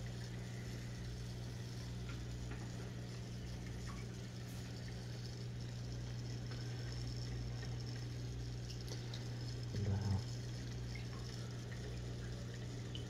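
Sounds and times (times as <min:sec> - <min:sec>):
aquarium pumps humming: 0:00.0 - 0:13.0
faint ticks: 0:01.0 - 0:13.0.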